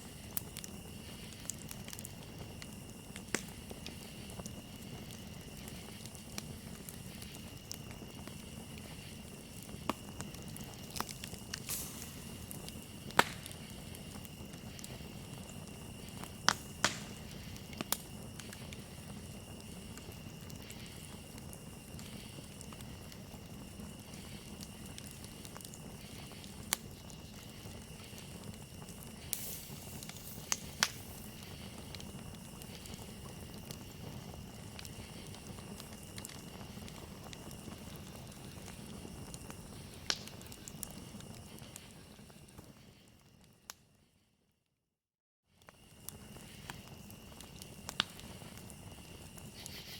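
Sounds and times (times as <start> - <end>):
crickets chirring: 0.0 - 43.7, 45.6 - 49.9
campfire popping and crackling: 0.0 - 44.0, 45.6 - 49.9.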